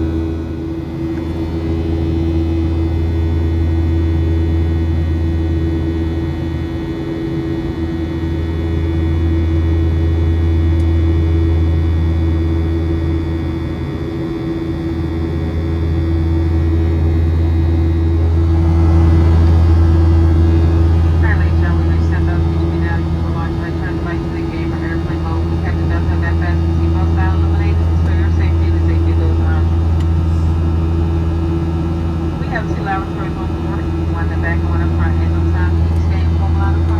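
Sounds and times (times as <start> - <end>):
airplane cabin drone: 0.0 - 36.9.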